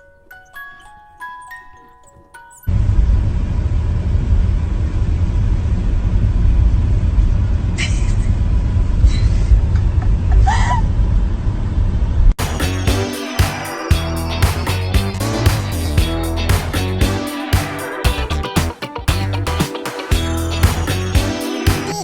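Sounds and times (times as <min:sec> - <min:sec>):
steady low rumble: 0:02.7 - 0:10.4, 0:11.2 - 0:21.4.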